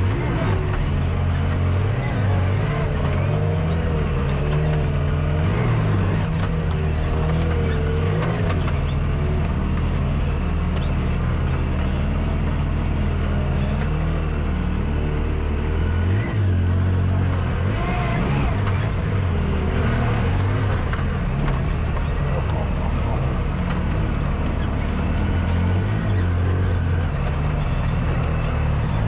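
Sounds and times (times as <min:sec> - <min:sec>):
utility vehicle engine revving: 0:00.0 - 0:29.0.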